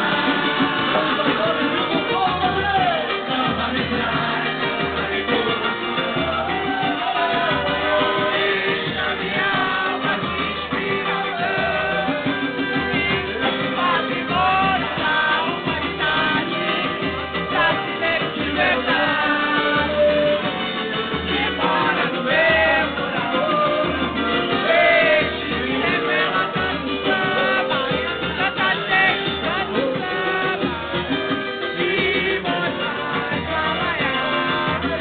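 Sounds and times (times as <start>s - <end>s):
hand percussion: 0.0s - 35.0s
person singing: 0.0s - 35.0s
strummed strings: 0.0s - 35.0s.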